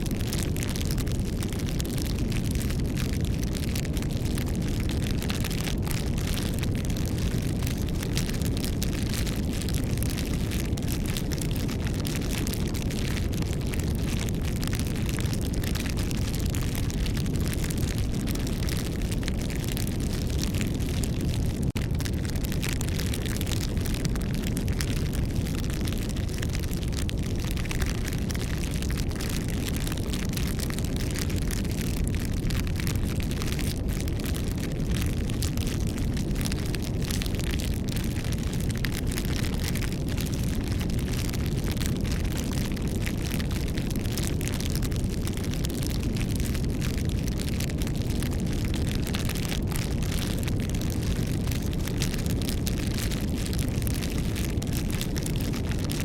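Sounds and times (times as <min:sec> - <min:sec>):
burning wood crackling: 0:00.0 - 0:56.0
low rush of flame: 0:00.0 - 0:56.0.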